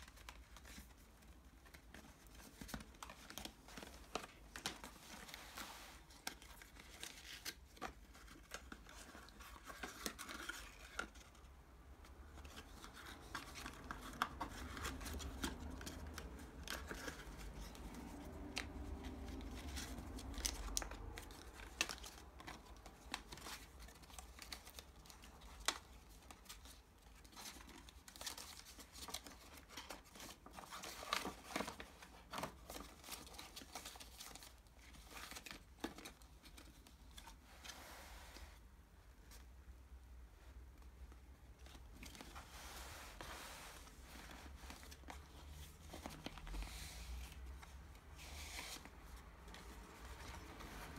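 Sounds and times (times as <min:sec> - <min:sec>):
paper rustling: 0:00.0 - 0:11.5, 0:12.1 - 0:38.6, 0:41.0 - 0:50.9.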